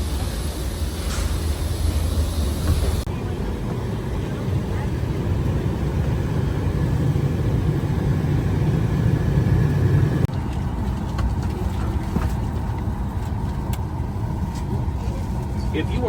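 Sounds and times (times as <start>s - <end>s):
airliner and ventilation rumble: 0.0s - 16.0s.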